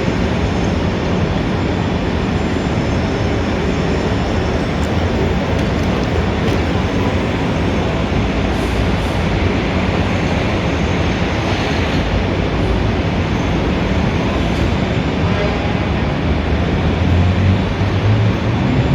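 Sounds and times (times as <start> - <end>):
city traffic rumble: 0.0 - 18.9.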